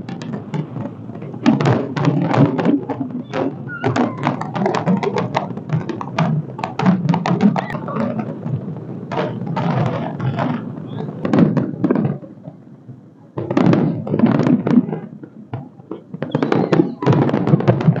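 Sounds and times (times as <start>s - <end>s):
fireworks bursting: 0.0s - 18.0s
voices of large crowd: 0.0s - 18.0s.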